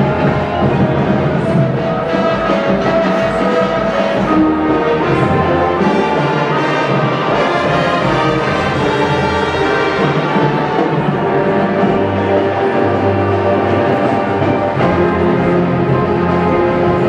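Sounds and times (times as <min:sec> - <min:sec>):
brass holding chords: 0:00.0 - 0:17.0
marching band playing: 0:00.0 - 0:17.0.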